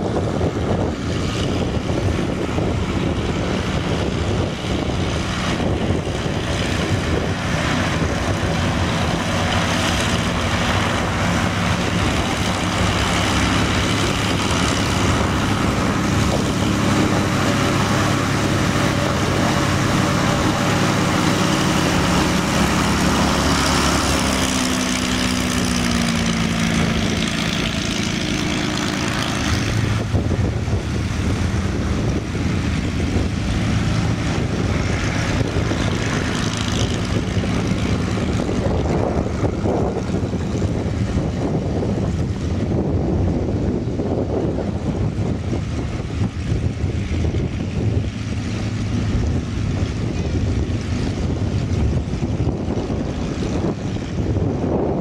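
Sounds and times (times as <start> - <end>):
aircraft engine droning: 0.0 - 55.0.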